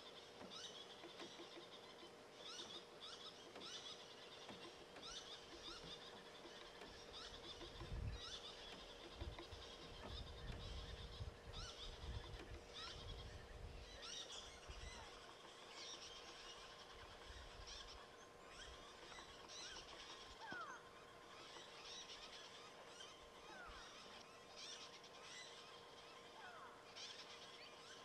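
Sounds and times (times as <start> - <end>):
birds chirping and calling: 0.0 - 28.0
faint steady hum: 0.0 - 28.0.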